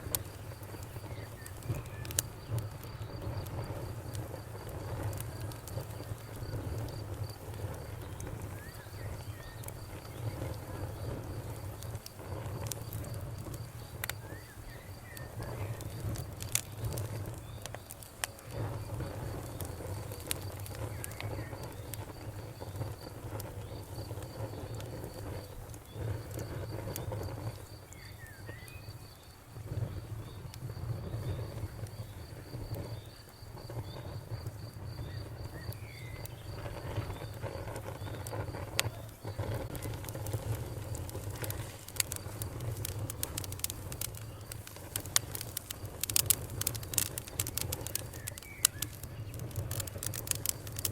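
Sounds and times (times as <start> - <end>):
campfire crackling and popping: 0.0 - 50.9
cricket chirping: 0.0 - 50.9.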